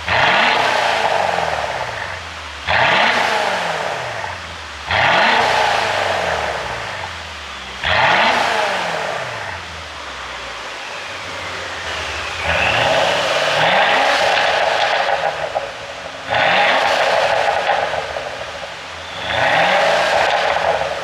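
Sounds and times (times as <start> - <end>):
car engine revving: 0.0 - 21.0
exhaust crackling and popping: 0.0 - 21.0.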